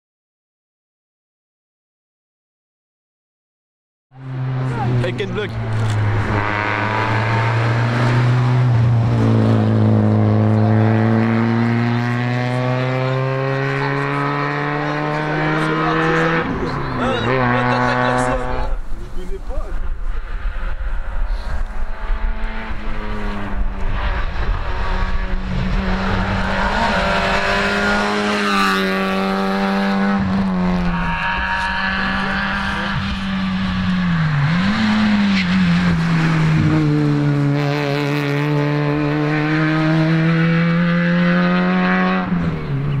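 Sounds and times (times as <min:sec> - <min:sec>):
rally car engine revving high: 0:04.2 - 0:43.0.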